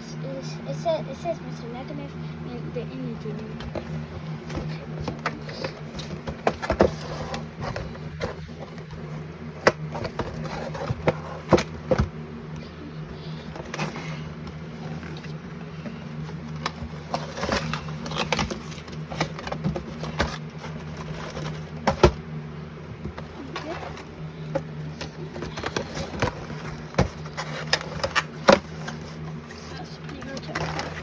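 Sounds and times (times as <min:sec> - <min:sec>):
steady low hum: 0:00.0 - 0:31.0
plastic and cardboard crackling: 0:02.9 - 0:31.0.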